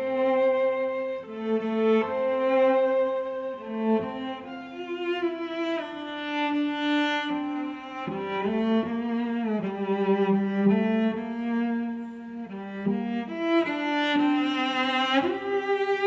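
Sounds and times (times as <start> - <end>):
slow bowed strings: 0.0 - 16.0.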